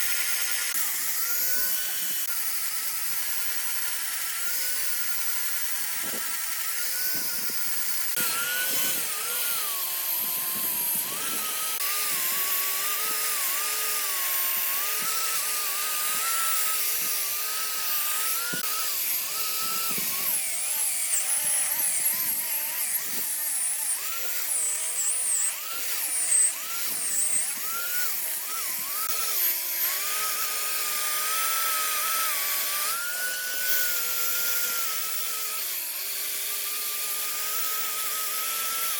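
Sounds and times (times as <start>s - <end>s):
electric power tool motor: 0.0s - 38.9s.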